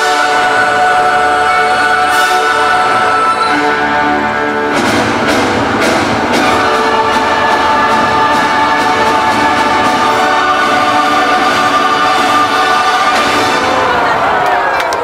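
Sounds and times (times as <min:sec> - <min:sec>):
orchestral music with brass chords: 0:00.0 - 0:14.4.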